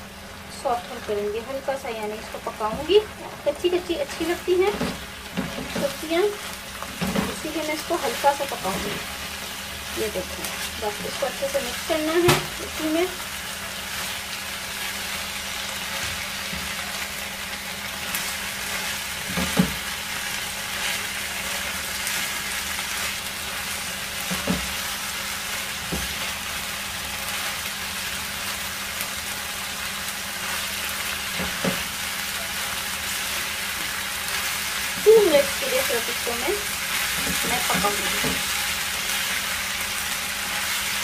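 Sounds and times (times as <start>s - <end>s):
food sizzling in frying pan: 0.0s - 41.0s.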